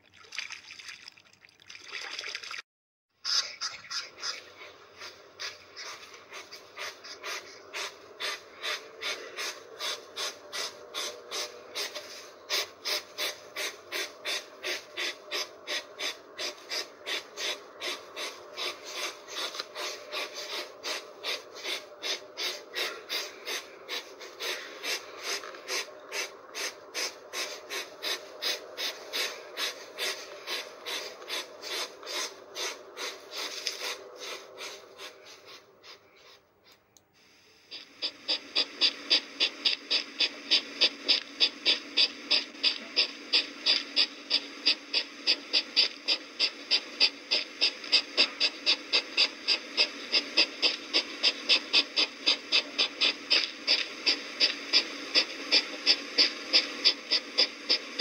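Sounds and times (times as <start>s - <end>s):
hedgehog snuffling: 3.2s - 36.9s, 37.7s - 58.0s.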